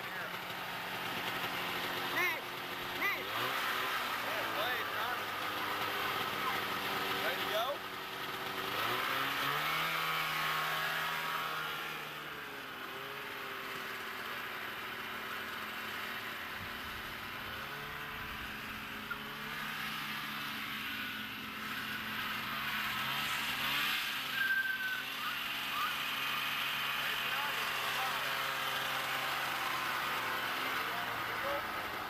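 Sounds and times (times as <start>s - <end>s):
snowmobile engine: 0.0s - 32.0s.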